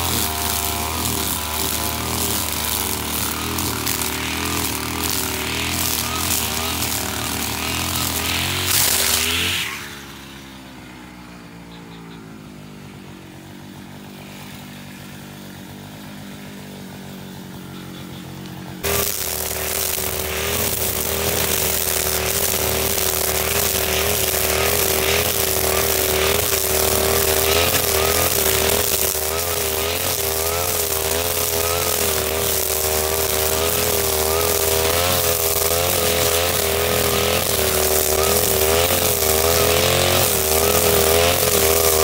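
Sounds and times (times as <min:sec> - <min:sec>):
brush cutter engine: 0:00.0 - 0:42.0.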